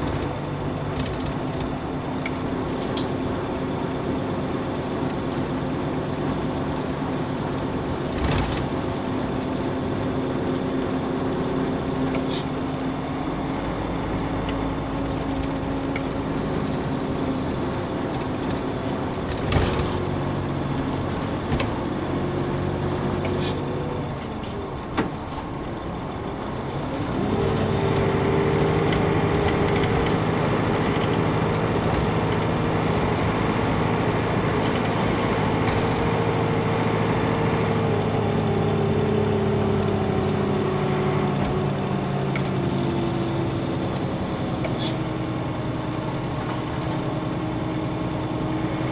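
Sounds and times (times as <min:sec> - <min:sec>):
bus diesel engine running: 0:00.0 - 0:48.9.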